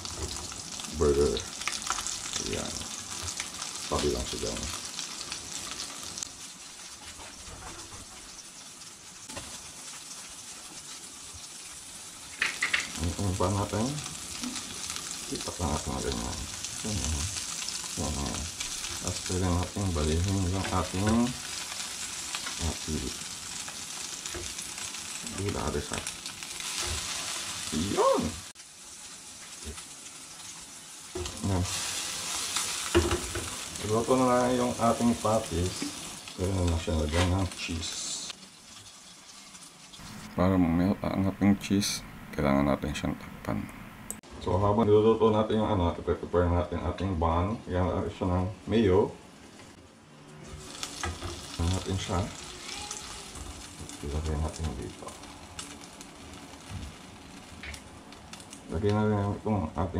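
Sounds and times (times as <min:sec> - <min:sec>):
burger patty sizzling in oil: 0:00.0 - 0:40.4, 0:50.4 - 0:59.9.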